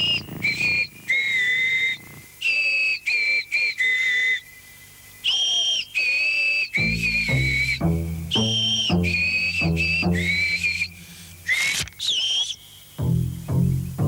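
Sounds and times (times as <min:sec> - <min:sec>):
budgie whistling a tune: 0:00.0 - 0:13.6.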